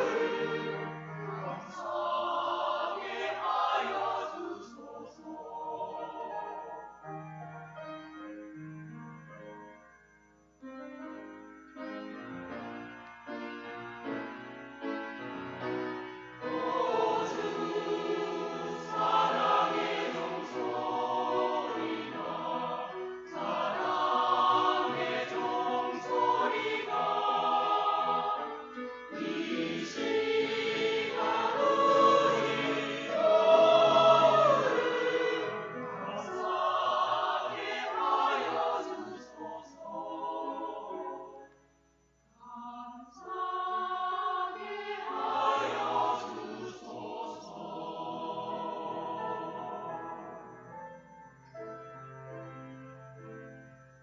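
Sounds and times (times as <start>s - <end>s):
choir singing a hymn: 0.0s - 7.2s, 14.0s - 41.7s, 42.3s - 51.1s.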